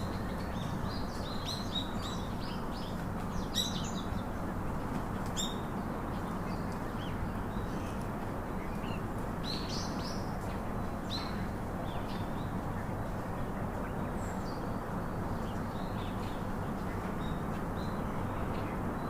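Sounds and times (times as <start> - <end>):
wild birds chirping: 0.0 - 19.0.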